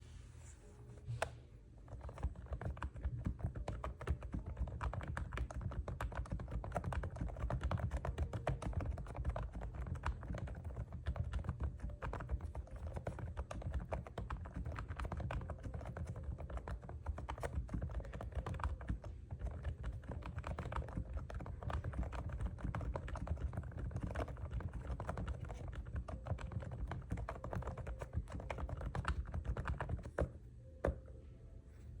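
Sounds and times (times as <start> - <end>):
fast typing on keyboard: 1.8 - 30.4.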